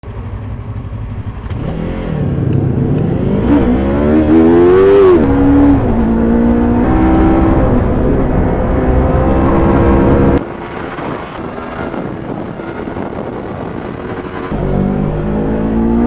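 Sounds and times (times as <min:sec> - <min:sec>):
motorcycle engine accelerating: 0:00.1 - 0:16.0.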